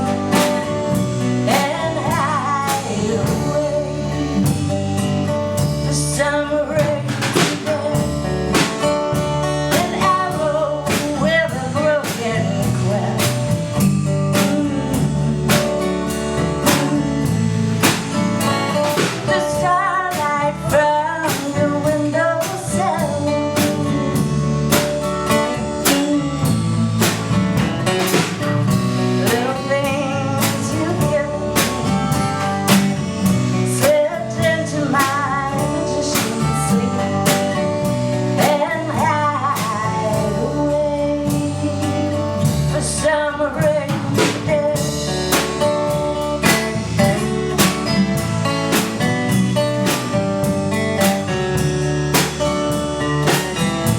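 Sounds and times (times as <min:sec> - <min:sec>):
drum kit beat: 0:00.0 - 0:53.9
strummed acoustic guitar: 0:00.0 - 0:53.9.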